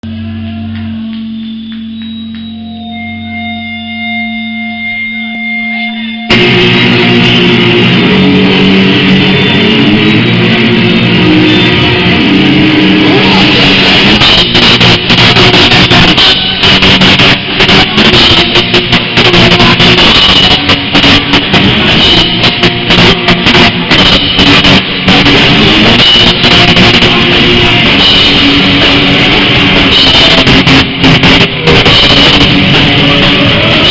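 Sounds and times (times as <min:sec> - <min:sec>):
steady held tones: 0:00.0 - 0:33.9
rock band playing live: 0:06.3 - 0:33.9.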